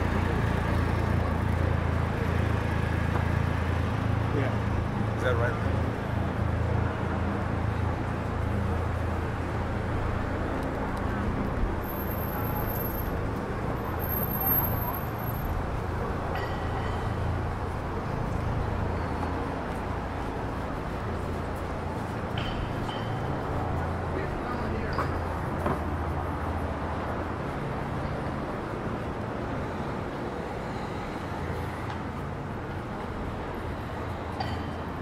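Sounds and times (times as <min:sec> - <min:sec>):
city street traffic: 0:00.0 - 0:35.0.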